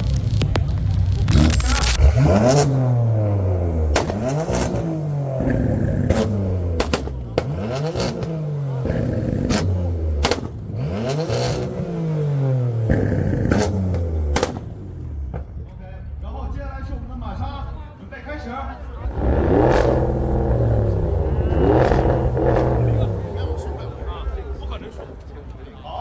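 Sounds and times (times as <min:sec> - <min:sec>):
sports car engine revving: 0:00.0 - 0:15.6, 0:17.5 - 0:26.0
exhaust pops and crackles: 0:00.0 - 0:26.0.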